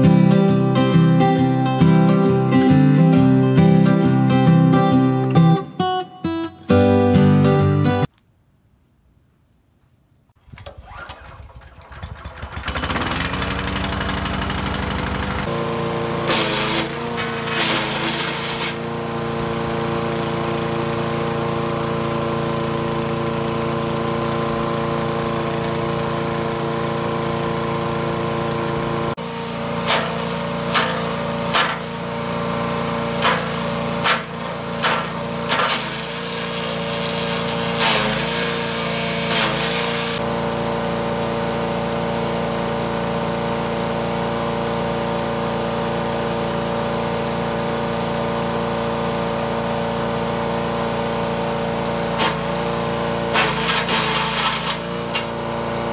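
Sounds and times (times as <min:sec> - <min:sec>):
wood chipper engine running: 0:00.0 - 0:06.0, 0:10.4 - 0:55.9.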